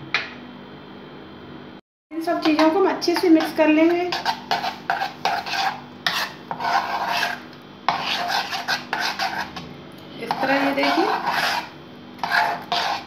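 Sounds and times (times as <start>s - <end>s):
batter stirred in steel bowl: 2.2s - 13.0s.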